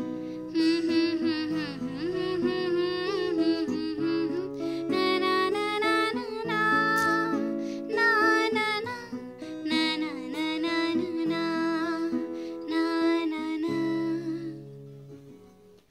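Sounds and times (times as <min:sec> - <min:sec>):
person singing: 0:00.0 - 0:14.7
acoustic guitar chords: 0:00.0 - 0:15.9.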